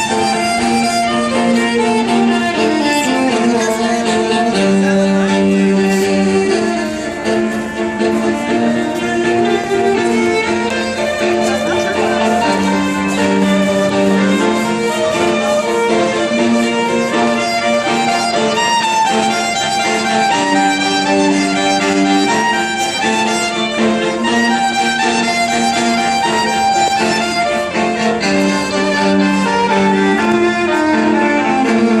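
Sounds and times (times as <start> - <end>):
electric violin melody: 0.0 - 32.0
sustained low notes: 0.0 - 32.0.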